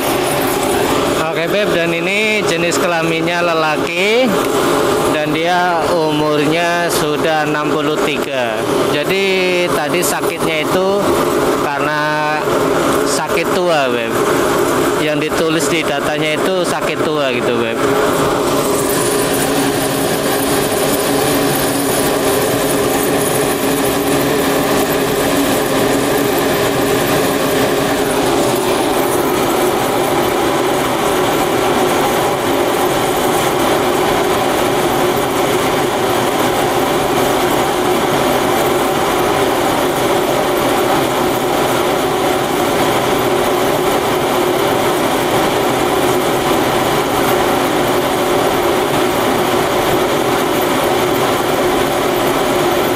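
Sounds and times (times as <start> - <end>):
furnace burner and blower roaring: 0.0 - 52.9.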